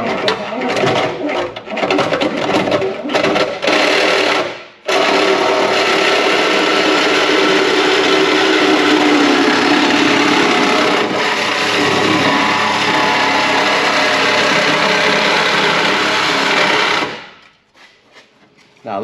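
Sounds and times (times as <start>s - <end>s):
power tool cutting sheet metal: 0.0s - 17.4s.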